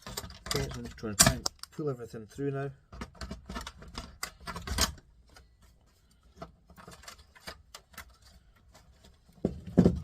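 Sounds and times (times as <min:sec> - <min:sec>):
plastic and metal parts rattling: 0:00.0 - 0:01.8, 0:02.8 - 0:10.0.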